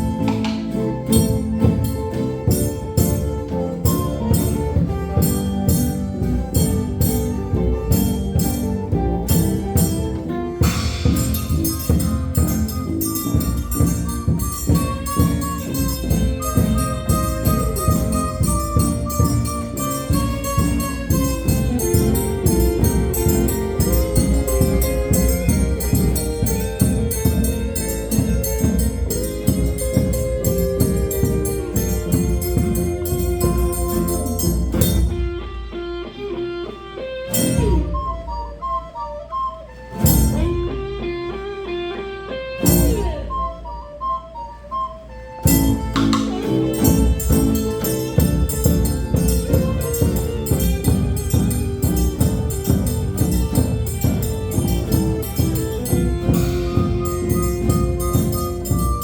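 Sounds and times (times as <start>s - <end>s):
steady percussion beat: 0.0s - 35.8s, 37.3s - 38.6s, 39.9s - 41.2s, 42.5s - 43.5s, 45.4s - 59.0s
melody over plucked strings: 0.0s - 59.0s.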